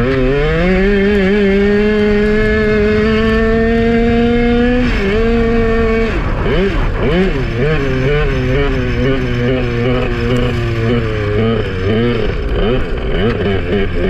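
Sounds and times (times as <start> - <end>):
kart engine at full throttle: 0.0 - 14.0.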